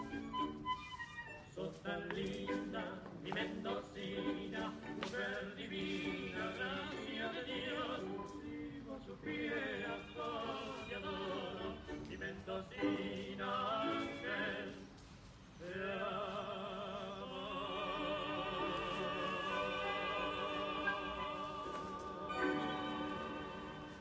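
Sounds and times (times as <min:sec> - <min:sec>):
tango accompaniment: 0:00.0 - 0:15.0, 0:15.7 - 0:24.0
person singing with vibrato: 0:01.4 - 0:15.0, 0:15.6 - 0:24.0.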